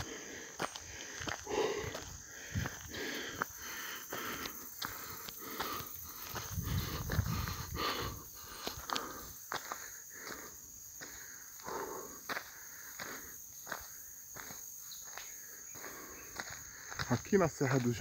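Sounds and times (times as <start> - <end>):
high insect buzz: 0.0 - 17.1
footsteps walking: 0.0 - 18.0.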